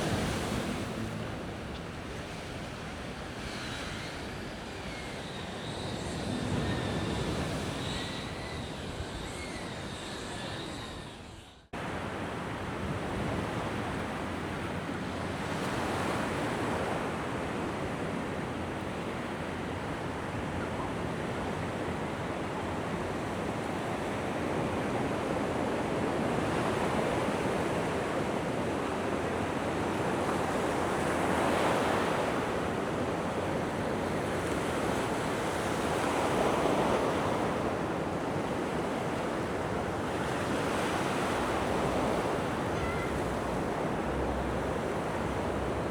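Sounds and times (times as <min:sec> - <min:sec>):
sea waves breaking on beach: 0:00.0 - 0:09.5, 0:11.8 - 0:45.9.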